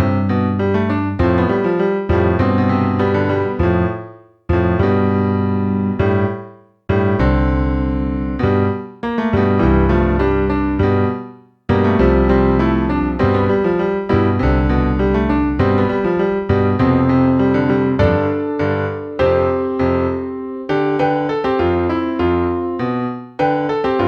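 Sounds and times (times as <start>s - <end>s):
electric piano chords: 0.0s - 24.0s.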